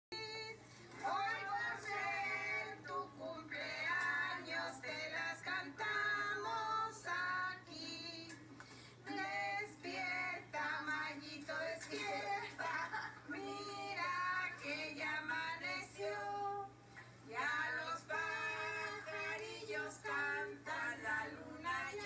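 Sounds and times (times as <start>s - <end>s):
women and children singing: 0.2s - 8.4s, 9.0s - 22.0s.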